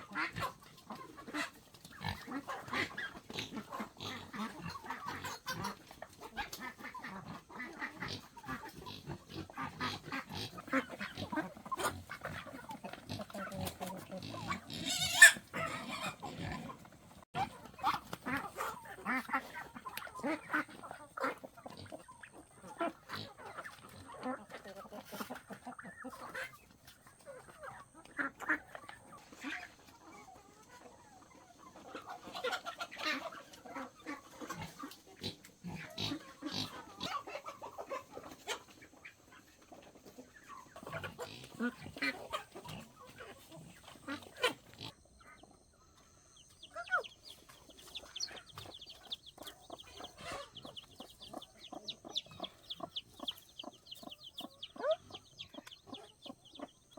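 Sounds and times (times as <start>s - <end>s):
farm animals calling: 0.0s - 56.9s
poultry clucking: 0.0s - 56.9s.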